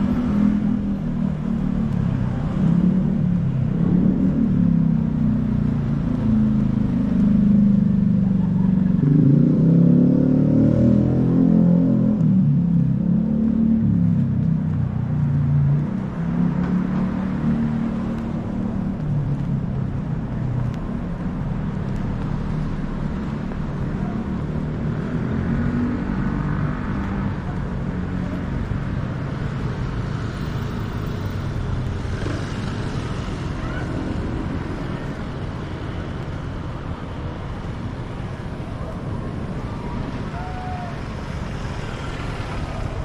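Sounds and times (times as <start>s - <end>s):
car engines passing: 0.0s - 43.0s.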